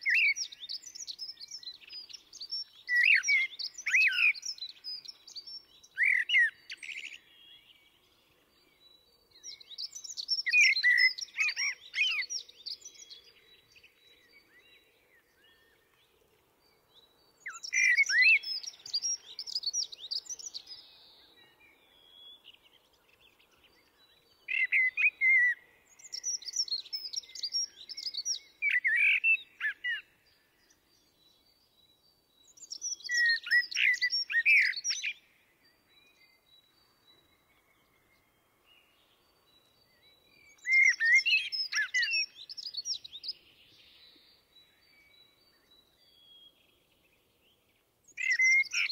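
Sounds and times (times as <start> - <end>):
blackbird singing: 0.0 - 48.9.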